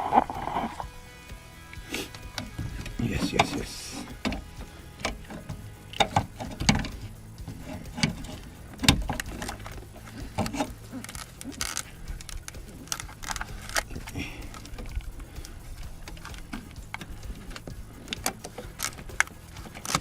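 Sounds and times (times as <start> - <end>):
tools and parts clicking and knocking: 2.2 - 20.0.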